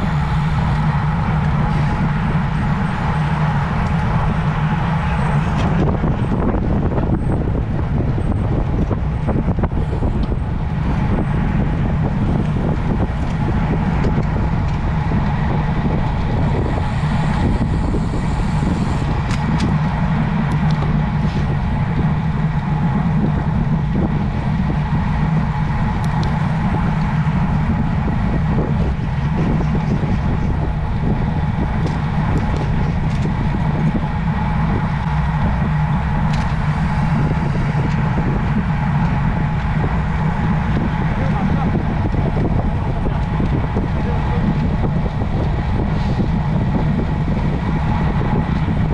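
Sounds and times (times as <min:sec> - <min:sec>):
wind and road noise rumble: 0:00.0 - 0:48.9.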